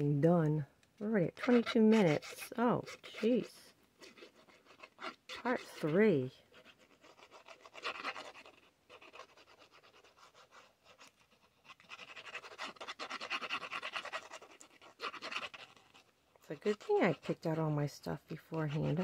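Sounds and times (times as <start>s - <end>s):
glue bottle tip scratching paper: 1.2s - 19.0s.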